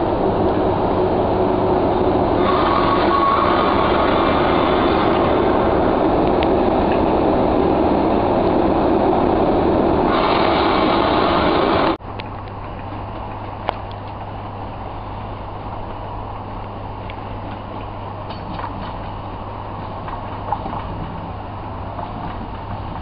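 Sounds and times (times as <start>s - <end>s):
diesel train approaching: 0.0s - 23.0s
electric locomotive running noise: 0.0s - 23.0s
low steady hum: 0.0s - 23.0s.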